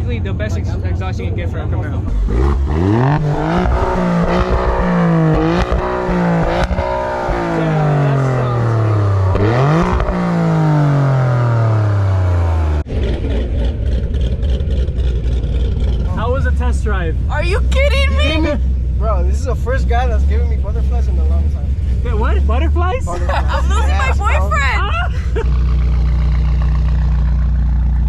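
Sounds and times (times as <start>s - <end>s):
car engine revving: 0.0s - 28.0s
low engine rumble: 0.0s - 28.0s.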